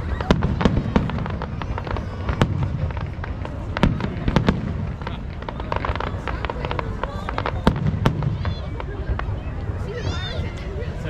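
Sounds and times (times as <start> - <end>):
fireworks bangs: 0.0 - 11.0
fireworks crackling pops: 0.0 - 11.0.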